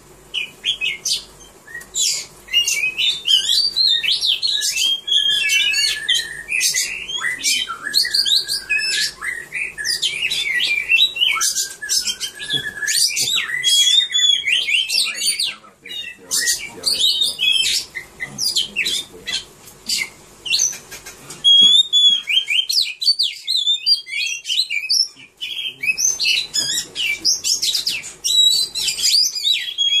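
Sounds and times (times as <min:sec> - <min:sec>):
bird singing whistles and chips: 0:00.4 - 0:19.0, 0:19.9 - 0:30.0.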